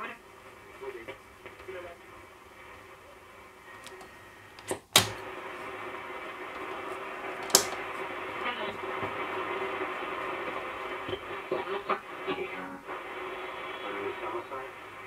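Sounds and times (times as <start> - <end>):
radio static hiss: 0.0 - 4.5, 5.2 - 15.0.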